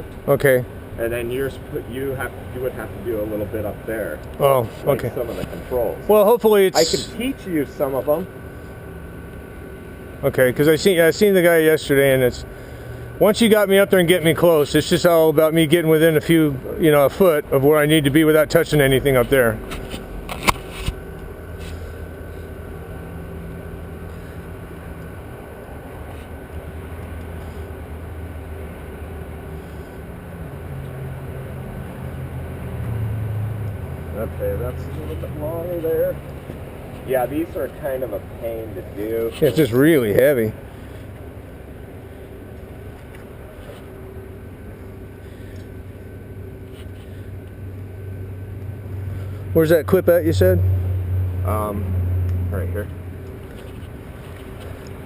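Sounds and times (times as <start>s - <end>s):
engine idling with low hum: 0.0s - 55.0s.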